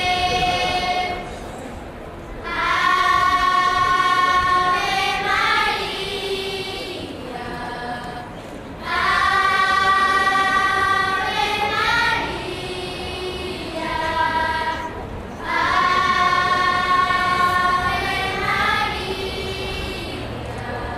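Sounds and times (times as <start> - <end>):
children's choir singing: 0.0 - 20.9.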